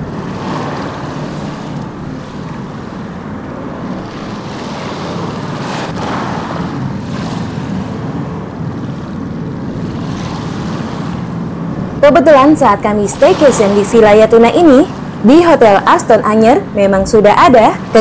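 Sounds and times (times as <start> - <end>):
surf washing onto beach: 0.0 - 15.2
wind rumbling on microphone: 0.0 - 18.0.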